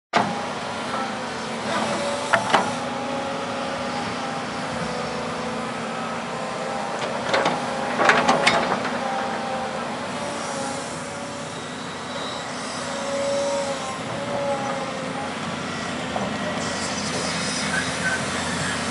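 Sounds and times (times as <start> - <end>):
excavator running: 0.2 - 18.9.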